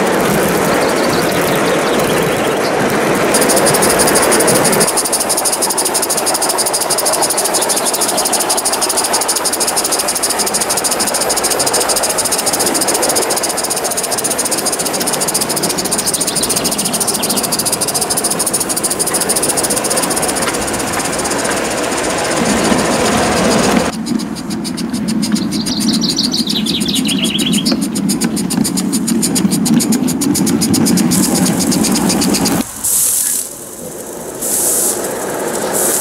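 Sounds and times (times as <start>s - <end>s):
steam hissing: 0.0s - 36.0s
steam locomotive exhaust beats: 0.0s - 36.0s.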